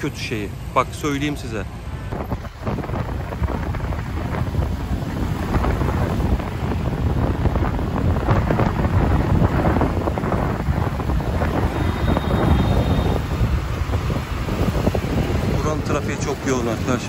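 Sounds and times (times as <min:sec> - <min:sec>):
road and traffic noise: 0:00.0 - 0:17.0
wind buffeting microphone: 0:01.2 - 0:17.0.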